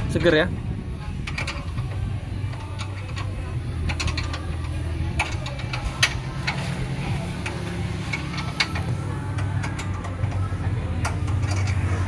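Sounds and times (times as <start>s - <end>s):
low mechanical hum: 0.0s - 12.0s
metallic clicks and clinks: 1.2s - 12.0s.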